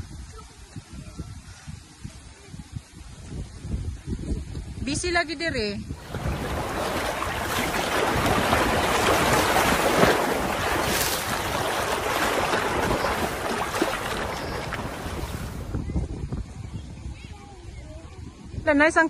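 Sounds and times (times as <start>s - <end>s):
wind blowing on microphone: 0.0s - 19.0s.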